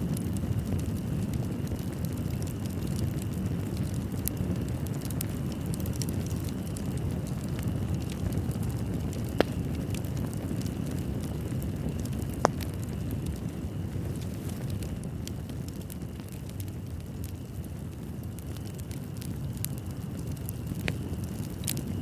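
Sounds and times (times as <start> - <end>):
flames rumbling: 0.0 - 22.0
sharp pops from fire: 0.0 - 22.0
wood fire crackling: 0.0 - 22.0.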